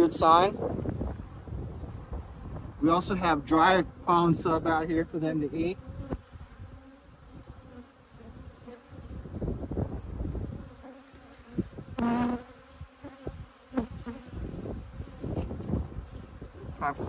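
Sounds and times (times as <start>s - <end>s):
honey bees buzzing: 0.0s - 17.0s
bee buzzing close past: 0.6s - 17.0s.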